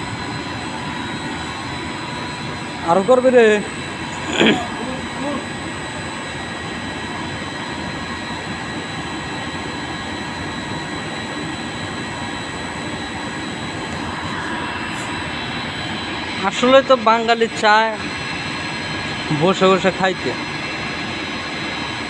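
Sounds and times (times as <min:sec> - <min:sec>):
faint high whining tones: 0:00.0 - 0:22.0
welding equipment drone: 0:00.0 - 0:22.0.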